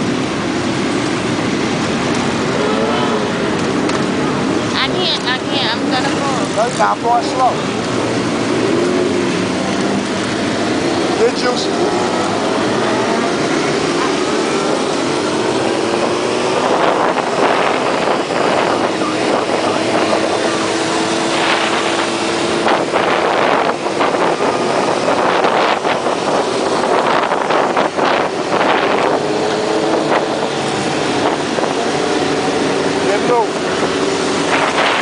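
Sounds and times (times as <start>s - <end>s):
motorcycle engines running: 0.0s - 35.0s
wind on microphone: 0.0s - 35.0s.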